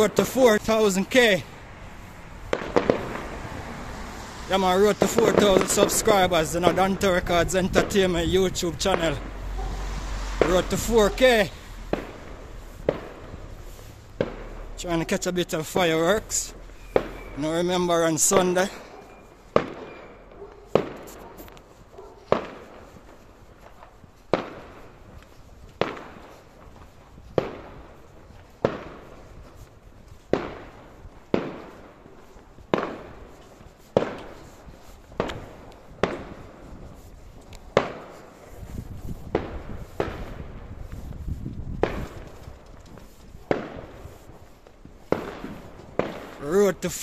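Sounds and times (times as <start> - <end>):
fireworks bangs echoing: 0.0 - 47.0.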